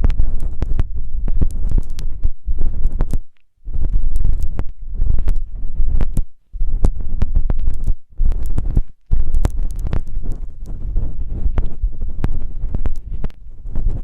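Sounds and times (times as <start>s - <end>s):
rubbing on microphone: 0.0s - 14.0s
sharp crackling clicks: 0.0s - 14.0s.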